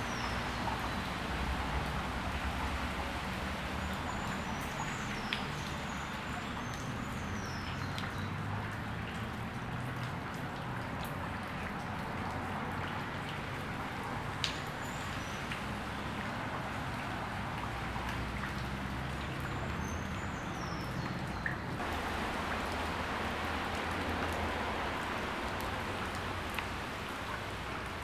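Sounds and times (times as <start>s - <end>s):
rain falling into a puddle: 0.0s - 28.0s.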